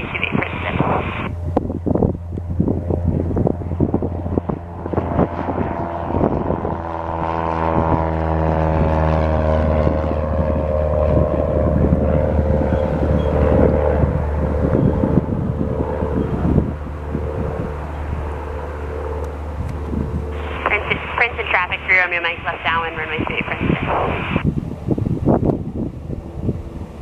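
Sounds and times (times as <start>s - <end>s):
propeller plane passing: 0.0s - 27.0s
wind on microphone: 0.0s - 27.0s.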